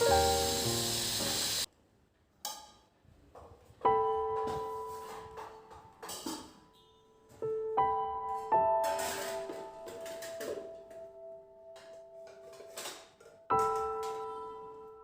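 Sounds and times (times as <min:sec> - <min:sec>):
soft piano notes: 0:00.0 - 0:00.8, 0:03.8 - 0:15.0.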